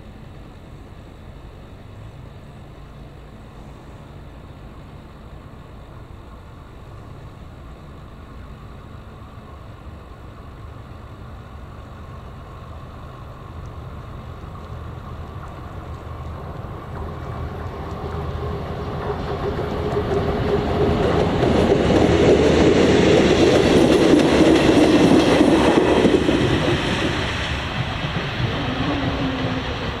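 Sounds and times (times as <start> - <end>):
engine running low and steady: 0.0 - 30.0.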